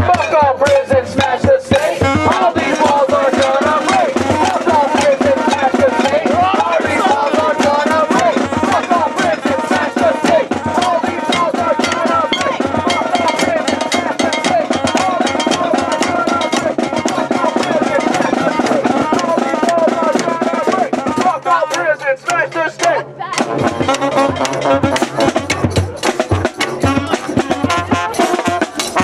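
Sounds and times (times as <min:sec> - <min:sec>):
crowd voices: 0:00.0 - 0:29.0
drums and percussion banging: 0:00.0 - 0:29.0.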